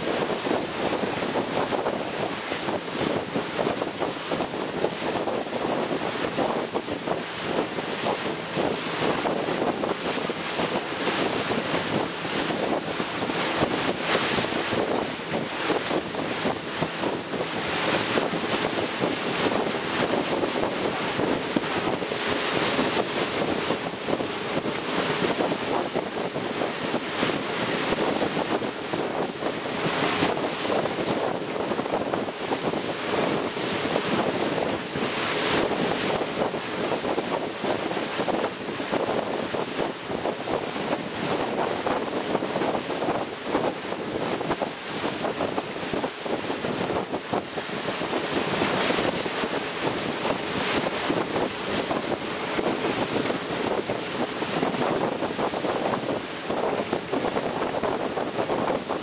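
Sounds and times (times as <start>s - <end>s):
water rushing past hull: 0.0s - 59.0s
wind buffeting microphone: 0.0s - 59.0s.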